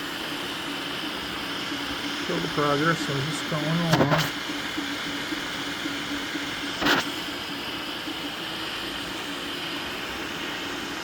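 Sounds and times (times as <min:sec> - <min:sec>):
fans whirring: 0:00.0 - 0:11.0
stepper motors humming: 0:00.0 - 0:11.0.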